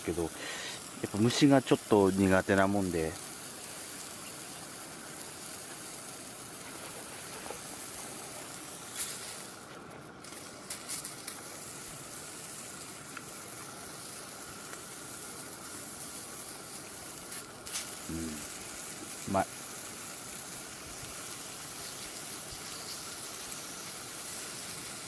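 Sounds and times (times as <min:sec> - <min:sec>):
meat sizzling on a griddle: 0:00.0 - 0:25.0.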